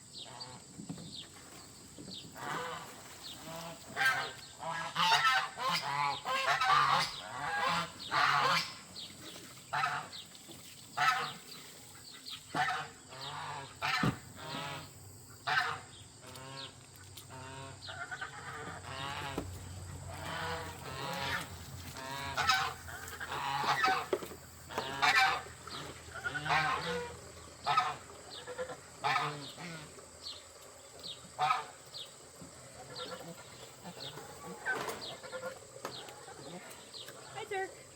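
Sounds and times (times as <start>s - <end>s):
geese honking: 2.4s - 8.9s, 9.7s - 10.2s, 11.0s - 11.5s, 12.2s - 30.0s, 31.3s - 31.8s, 32.7s - 37.7s.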